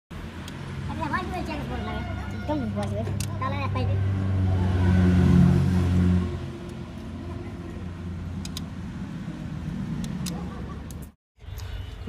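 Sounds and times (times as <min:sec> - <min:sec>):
vehicle engine droning: 0:00.1 - 0:12.0.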